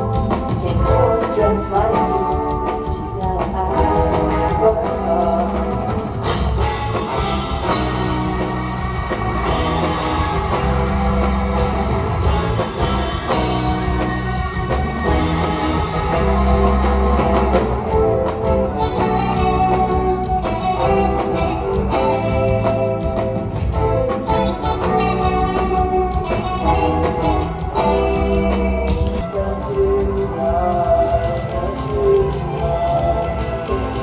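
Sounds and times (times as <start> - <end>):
bass guitar: 0.0 - 34.0
drum kit beat: 0.0 - 34.0
electric guitar: 0.0 - 34.0.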